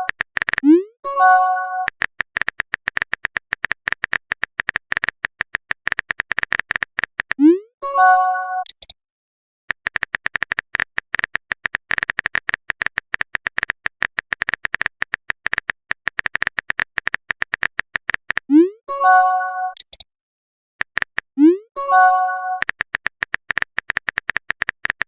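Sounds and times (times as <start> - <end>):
keyboard typing clicks: 0.0 - 7.6, 9.7 - 18.7, 19.7 - 20.1, 20.8 - 25.0.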